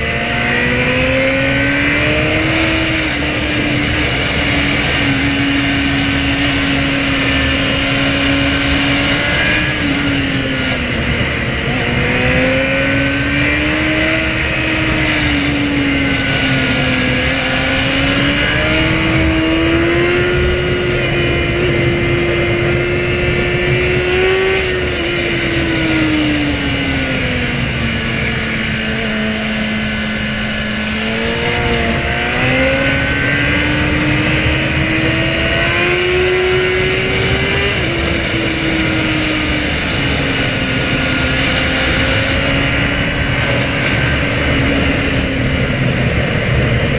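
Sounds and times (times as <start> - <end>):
motorcycle engine revving: 0.0 - 46.9
steady rushing noise: 0.0 - 46.9.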